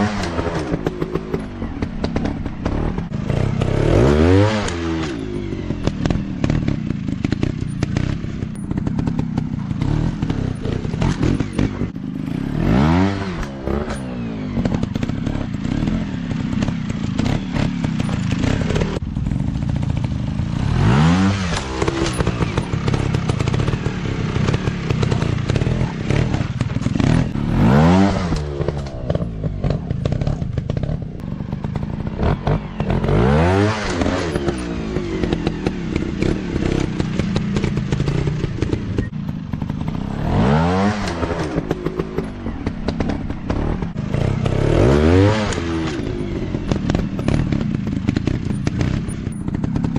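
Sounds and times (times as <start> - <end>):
clatter: 0.0 - 49.9
dirt bike engines revving: 0.0 - 49.9.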